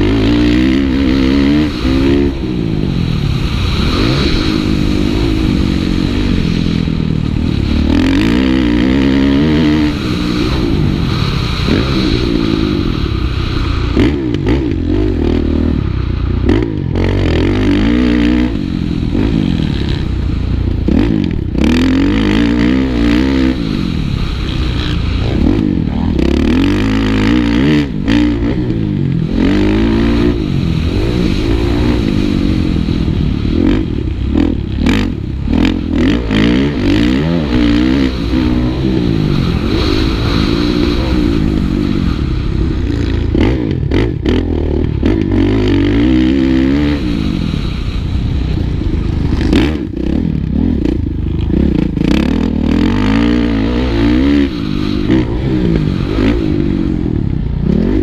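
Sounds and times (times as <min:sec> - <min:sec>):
motocross bike engine revving: 0:00.0 - 0:58.0
wind rushing over microphone: 0:00.0 - 0:58.0.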